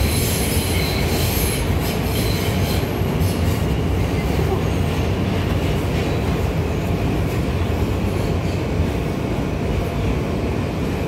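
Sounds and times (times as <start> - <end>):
subway wheels rumbling on rail: 0.0 - 11.0.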